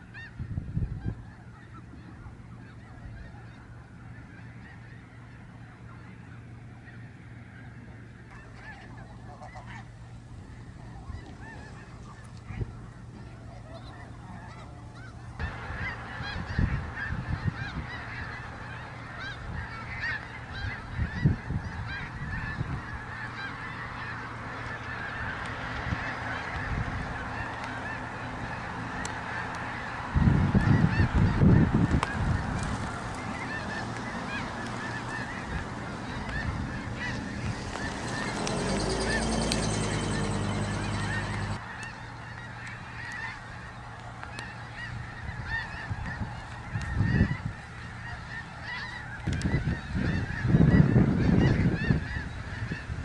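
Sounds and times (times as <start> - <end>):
geese honking: 0.0 - 53.0.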